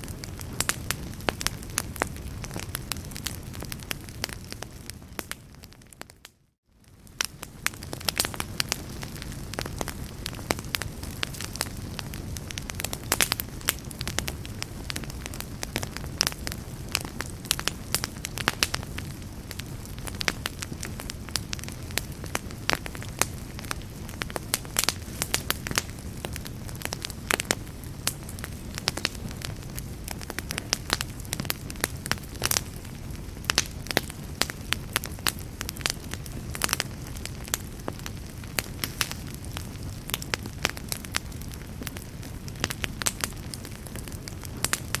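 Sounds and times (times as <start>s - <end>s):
fire pops and snaps: 0.0s - 45.0s
low rumble of flames: 0.0s - 45.0s.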